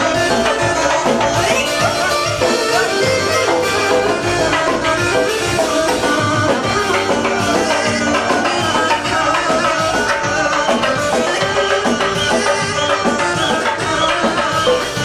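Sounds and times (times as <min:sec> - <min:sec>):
folk dance band with clarinet: 0:00.0 - 0:15.0.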